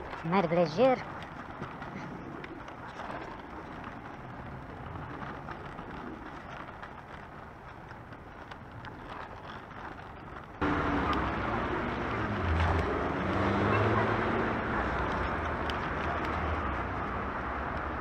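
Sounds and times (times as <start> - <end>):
kick scooter rolling rumble: 0.0 - 18.0
street traffic: 0.0 - 18.0.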